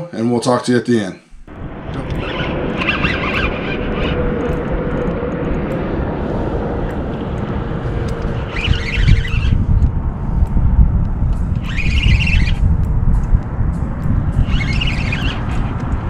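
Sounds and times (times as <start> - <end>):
wind buffeting microphone: 1.4 - 16.0.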